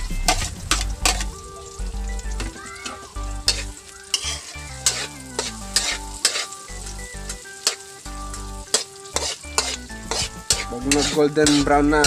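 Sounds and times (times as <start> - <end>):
spatula scraping a wok: 0.0 - 1.3, 3.4 - 12.0
background music: 0.0 - 12.0
vegetables sizzling in hot oil: 0.0 - 12.0.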